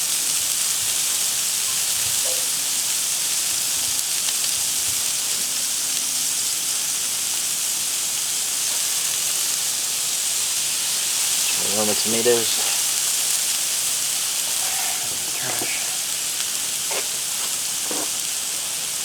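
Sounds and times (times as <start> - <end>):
tomatoes sizzling on griddle: 0.0 - 19.0.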